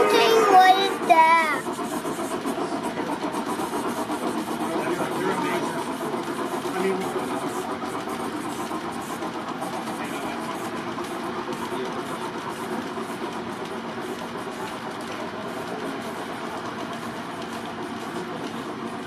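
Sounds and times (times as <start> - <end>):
model trains rumbling on track: 0.0 - 19.0.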